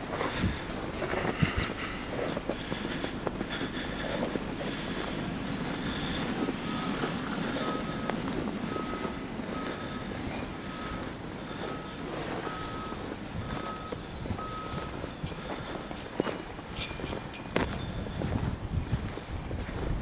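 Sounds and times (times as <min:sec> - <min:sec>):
low rumbling noise: 0:00.0 - 0:20.0
vehicle backup alarm beeping: 0:00.0 - 0:20.0.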